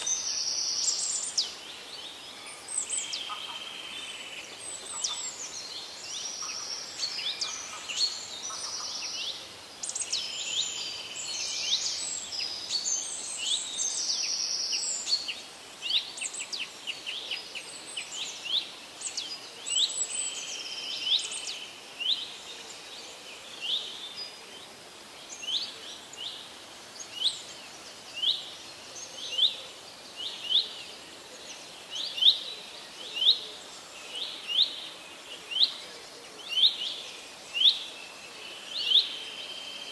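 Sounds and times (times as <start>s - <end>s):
birds singing: 0.0s - 39.9s
faint background hiss: 0.0s - 39.9s.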